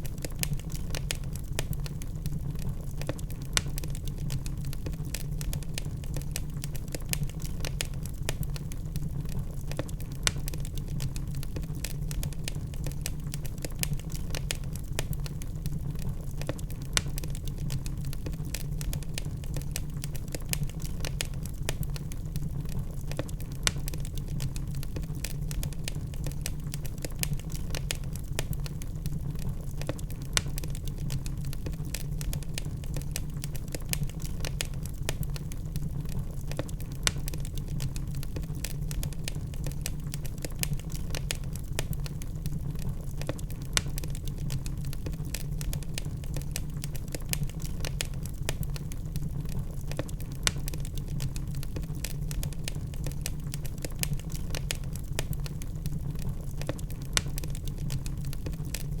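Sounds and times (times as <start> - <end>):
log fire crackling: 0.0 - 59.0
low rumble of burning wood: 0.0 - 59.0.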